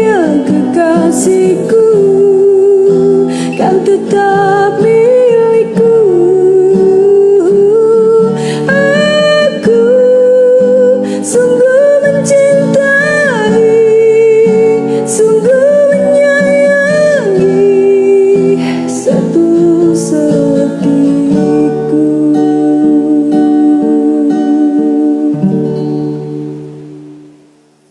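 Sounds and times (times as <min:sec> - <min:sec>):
guitar accompaniment: 0:00.0 - 0:27.9
slow love song: 0:00.0 - 0:27.9.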